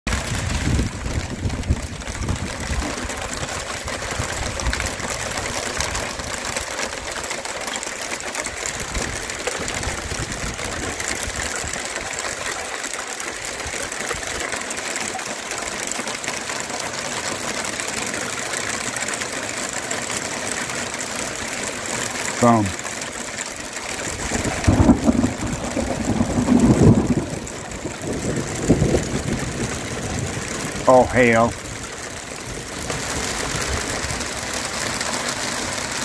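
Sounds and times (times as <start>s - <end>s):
hail clattering on hard surfaces: 0.1s - 36.0s.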